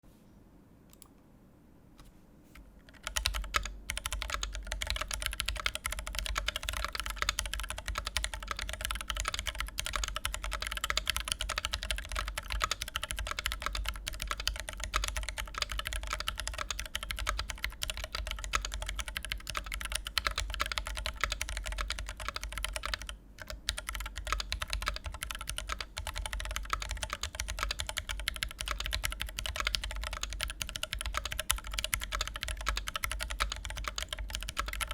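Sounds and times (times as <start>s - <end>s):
fast typing on mechanical keyboard: 2.9s - 34.9s.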